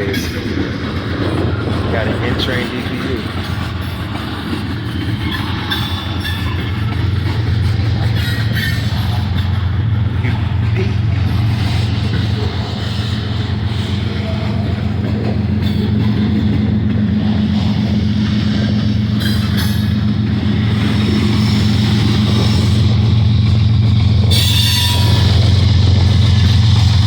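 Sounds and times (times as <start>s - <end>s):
freight cars rumbling on rails: 0.0s - 27.0s.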